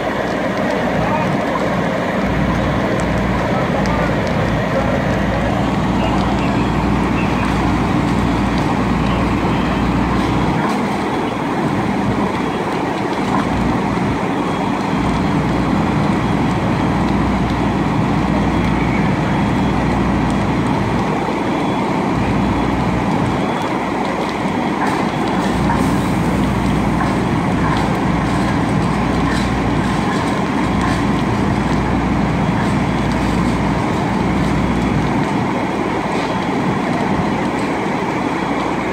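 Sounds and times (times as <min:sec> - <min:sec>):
diesel engines idling: 0:00.0 - 0:38.9.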